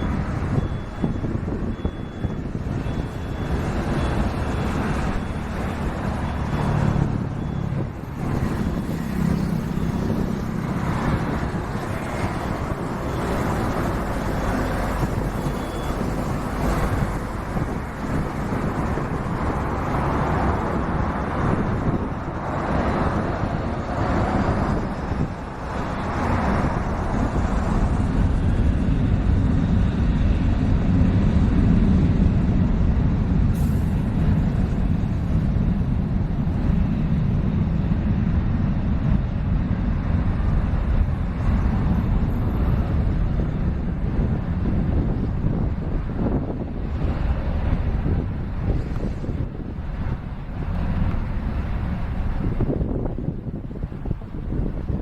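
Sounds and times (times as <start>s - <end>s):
vehicle rumble in motion: 0.0s - 55.0s.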